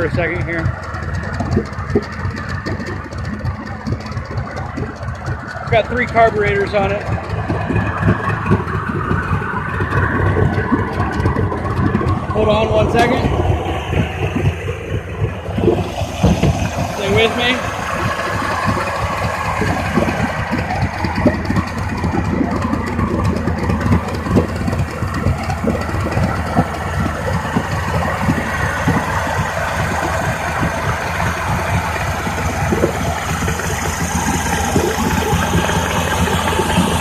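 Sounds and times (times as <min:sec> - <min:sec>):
outboard motor idling: 0:00.0 - 0:37.0.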